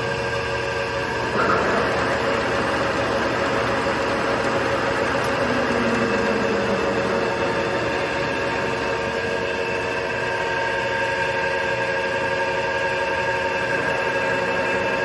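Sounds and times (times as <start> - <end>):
gear whine: 0.0 - 15.0
lathe running: 0.0 - 15.0.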